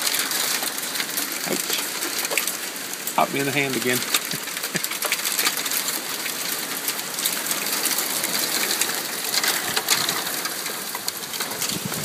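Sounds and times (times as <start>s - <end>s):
hail ticking on wooden deck: 0.0s - 12.0s
rain hiss: 0.0s - 12.0s.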